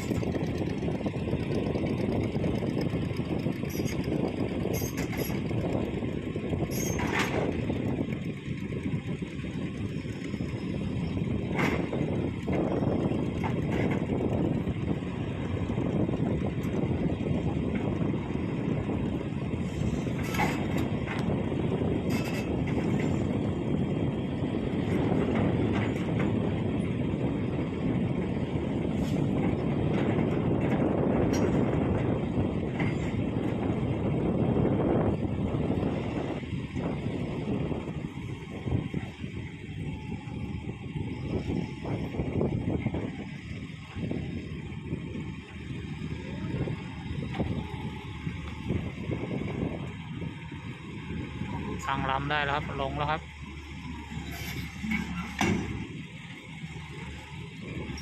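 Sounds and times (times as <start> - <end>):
heavy engine running: 0.0 - 58.0.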